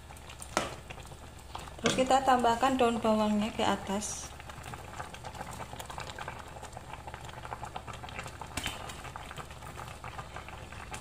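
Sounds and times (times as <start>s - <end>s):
soup bubbling in a pan: 0.0s - 11.0s.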